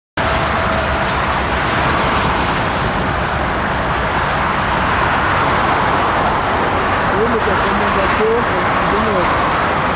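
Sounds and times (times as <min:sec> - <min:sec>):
jet engine roar: 0:00.2 - 0:09.9.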